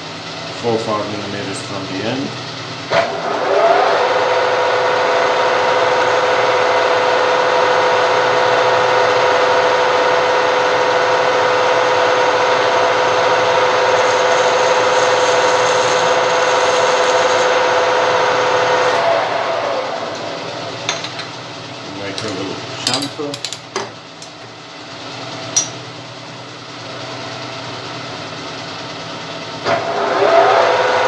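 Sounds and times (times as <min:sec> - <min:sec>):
lathe whining: 0:00.6 - 0:22.9, 0:26.6 - 0:31.0.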